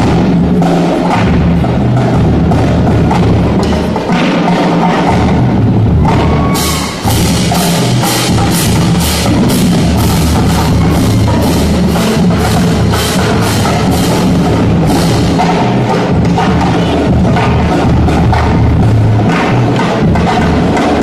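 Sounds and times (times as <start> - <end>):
marching drumline: 0.0 - 21.0.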